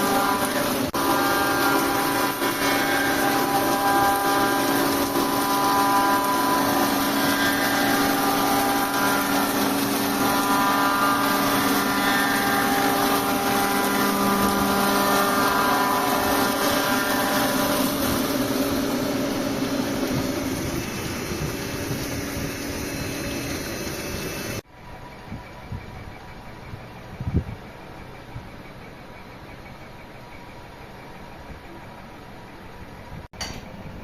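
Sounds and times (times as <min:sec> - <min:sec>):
workshop machine humming: 0:00.0 - 0:34.0.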